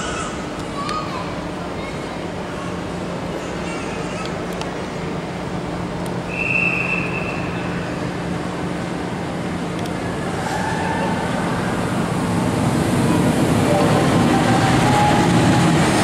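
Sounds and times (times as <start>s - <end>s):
train approaching: 0.0s - 16.0s.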